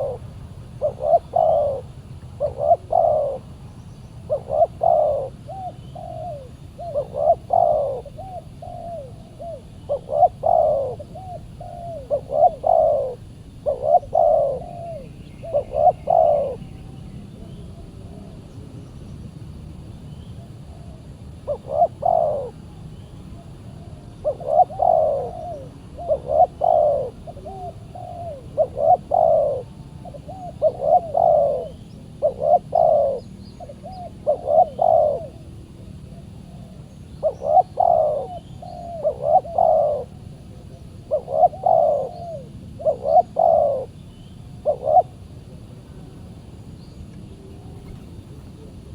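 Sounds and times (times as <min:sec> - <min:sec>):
doves cooing: 0:00.0 - 0:18.6, 0:20.3 - 0:48.9.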